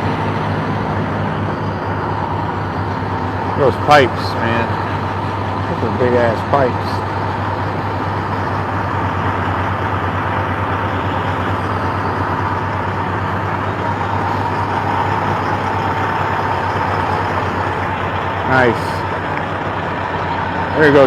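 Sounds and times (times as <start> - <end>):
diesel engine idling: 0.0 - 21.0
steady whine: 0.0 - 21.0.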